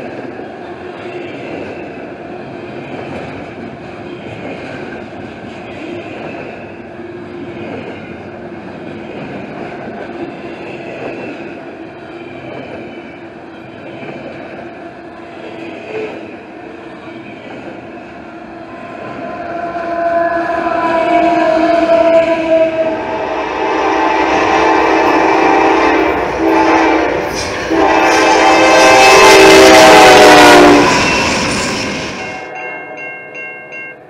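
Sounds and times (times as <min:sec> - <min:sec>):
train wheels rolling on rails: 0:00.0 - 0:32.6.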